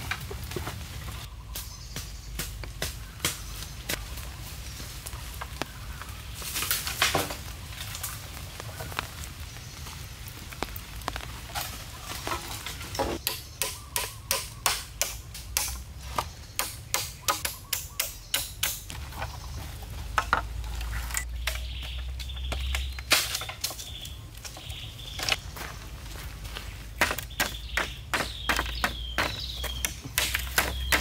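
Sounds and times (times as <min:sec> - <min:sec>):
bamboo cracking: 0:00.0 - 0:31.0.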